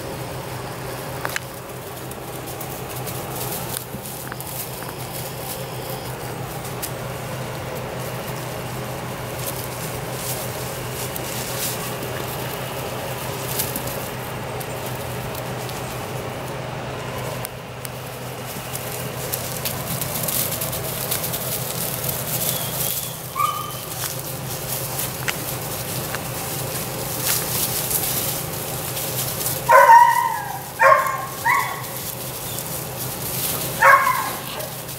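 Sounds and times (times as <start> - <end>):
paws rustling through mulch: 0.0 - 34.9
steady low hum: 0.0 - 34.9.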